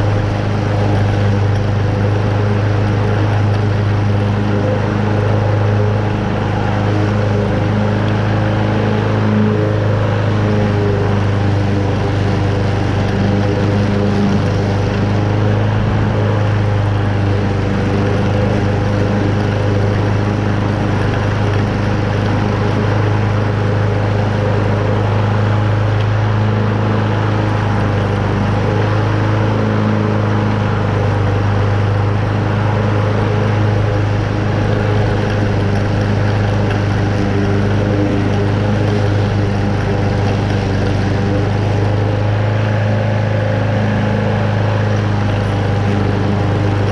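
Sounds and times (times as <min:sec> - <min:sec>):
lawn mower engine running: 0:00.0 - 0:46.9
mower blade cutting grass: 0:00.0 - 0:46.9.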